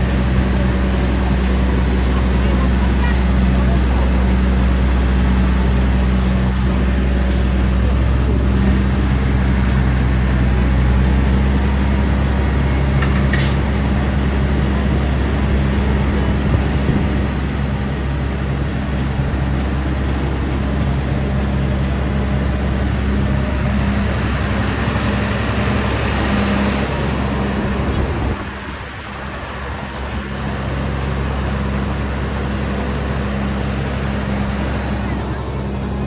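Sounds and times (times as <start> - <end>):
large engine running: 0.0 - 36.0.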